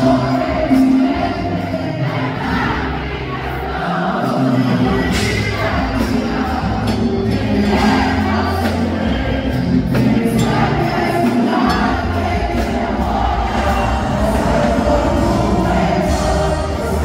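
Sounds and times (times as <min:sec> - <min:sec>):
crowd singing along: 0:00.0 - 0:17.0
live band music with singing: 0:00.0 - 0:17.0.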